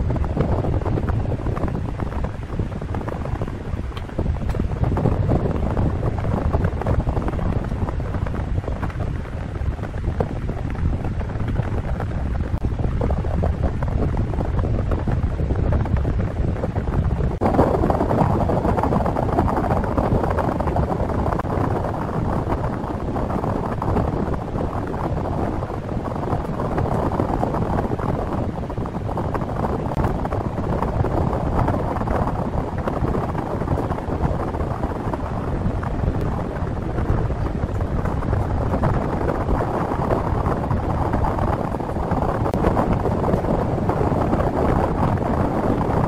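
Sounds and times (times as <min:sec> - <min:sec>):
wind on microphone: 0:00.0 - 0:46.0.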